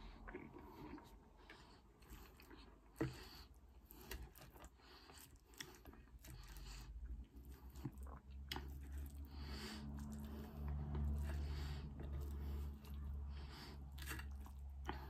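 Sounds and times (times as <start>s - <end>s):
chewing fries: 0.0s - 15.0s.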